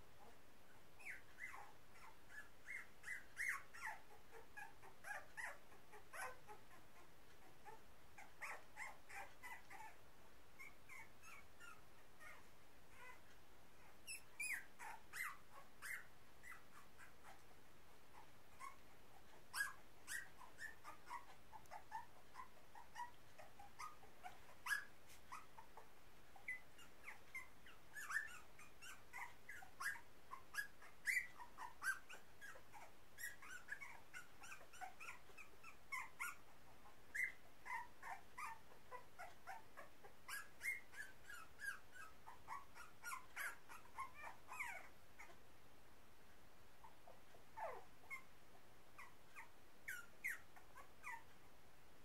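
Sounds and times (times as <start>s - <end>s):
puppies squeaking and whimpering: 1.0s - 6.8s, 7.6s - 10.0s, 10.6s - 13.2s, 14.0s - 17.4s, 18.2s - 25.8s, 26.4s - 36.4s, 37.1s - 45.4s, 49.0s - 51.3s.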